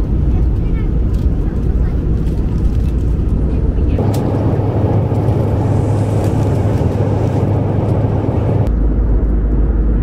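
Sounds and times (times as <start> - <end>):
airliner cabin engine hum: 0.0 - 10.0.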